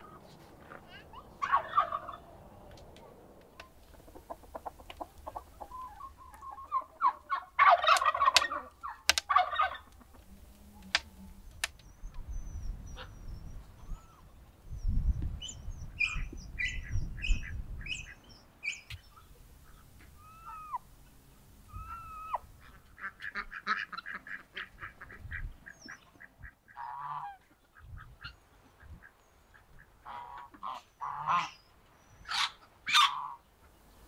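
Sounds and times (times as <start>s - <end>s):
poultry calling: 0.0s - 2.7s, 3.8s - 11.7s, 16.0s - 31.6s, 32.2s - 33.8s.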